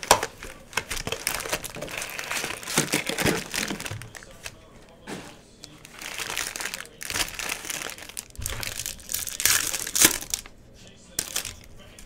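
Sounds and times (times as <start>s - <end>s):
foil wrappers crinkling and tearing: 0.0s - 4.6s, 5.6s - 11.9s.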